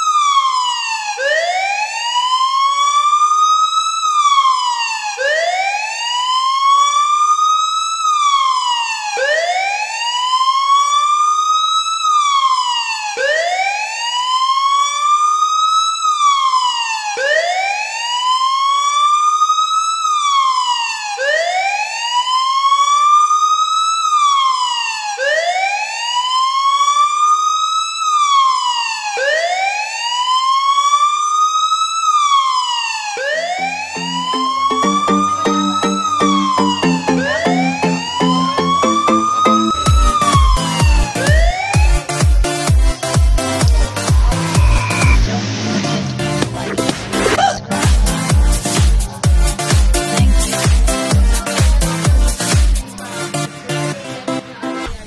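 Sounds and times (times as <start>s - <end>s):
siren wailing: 0.0s - 45.5s.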